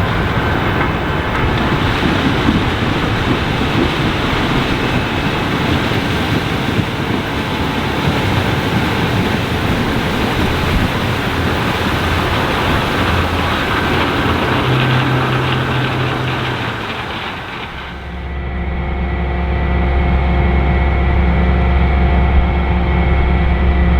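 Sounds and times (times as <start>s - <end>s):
combine harvester running: 0.0s - 23.9s.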